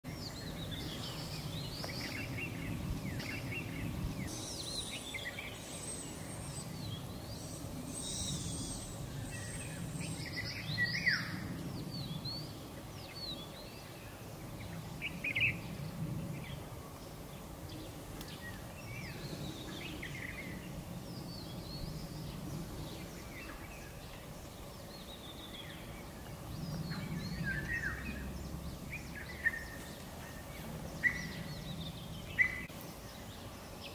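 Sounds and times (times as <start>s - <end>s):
wild birds calling: 0.0s - 33.9s
steady low rumble: 0.1s - 32.7s.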